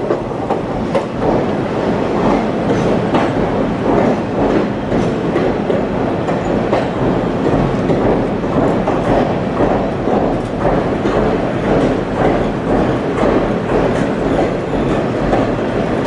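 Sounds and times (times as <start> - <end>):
train rumbling: 0.0 - 16.0
train wheels clattering on rails: 0.0 - 16.0.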